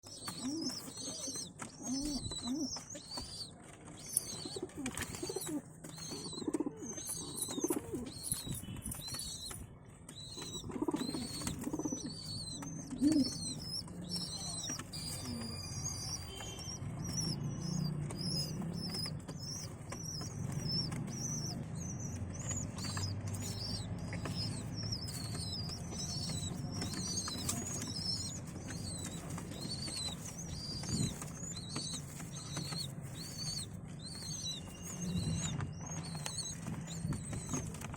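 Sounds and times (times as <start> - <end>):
pigeons cooing: 0.1 - 3.4, 4.2 - 8.2, 10.3 - 37.7.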